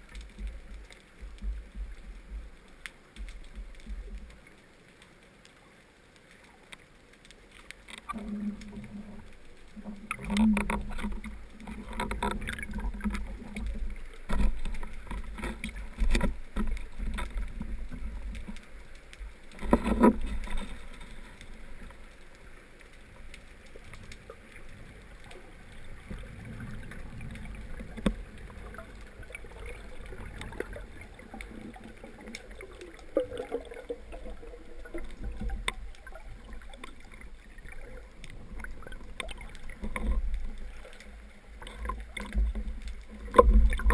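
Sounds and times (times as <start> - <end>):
muffled rush of water: 0.0 - 43.9.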